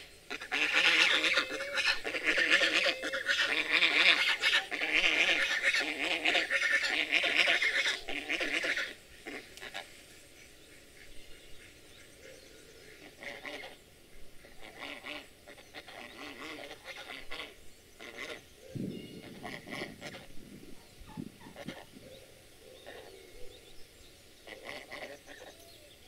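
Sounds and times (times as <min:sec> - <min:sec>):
geese honking: 0:00.0 - 0:18.5, 0:19.1 - 0:22.0, 0:24.4 - 0:25.6.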